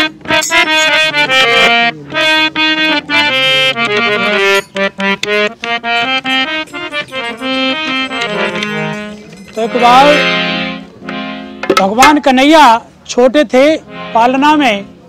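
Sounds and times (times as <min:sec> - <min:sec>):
dholak drum strokes: 0:00.0 - 0:12.3
harmonium melody: 0:00.0 - 0:15.0.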